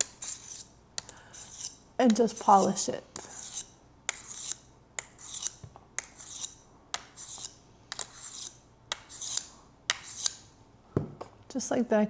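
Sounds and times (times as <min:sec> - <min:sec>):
sharpener scraping knife edge: 0:00.0 - 0:10.5.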